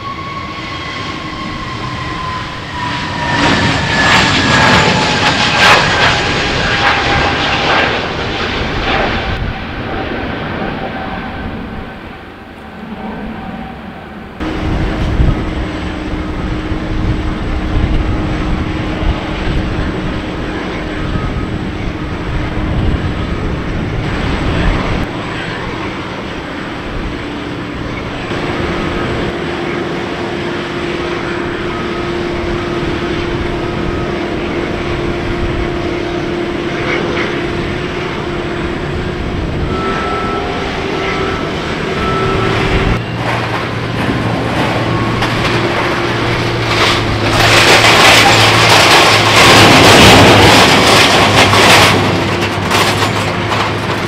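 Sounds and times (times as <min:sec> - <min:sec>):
aircraft and equipment drone: 0:00.0 - 0:54.0.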